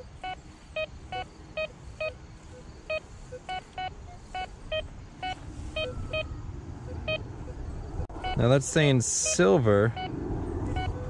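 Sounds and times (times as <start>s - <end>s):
metal detector beeps: 0.0s - 10.1s, 10.7s - 11.0s.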